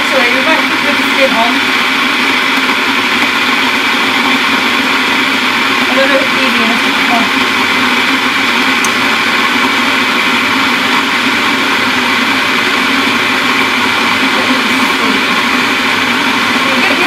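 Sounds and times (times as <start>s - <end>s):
loud whirring drone: 0.0s - 17.0s.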